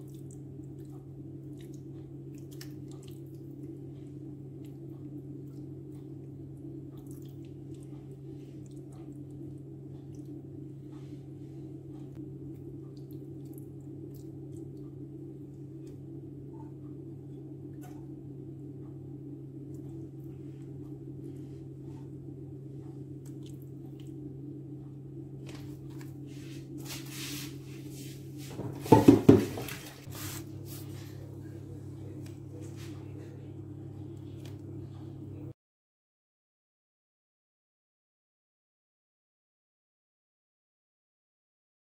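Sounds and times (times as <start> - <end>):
steady low hum: 0.0 - 35.6.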